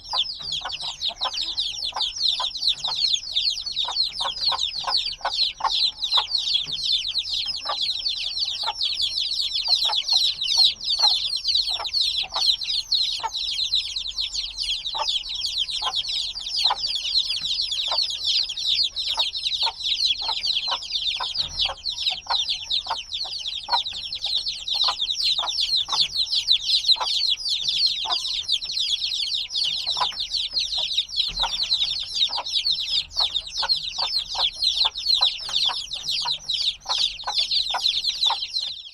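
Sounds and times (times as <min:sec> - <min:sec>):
chicks peeping: 0:00.0 - 0:38.9
short lower chick calls: 0:00.0 - 0:38.9.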